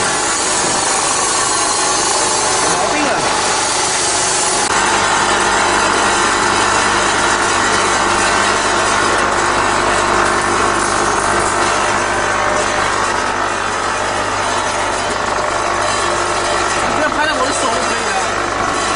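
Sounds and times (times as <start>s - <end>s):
conveyor machinery running: 0.0s - 18.9s.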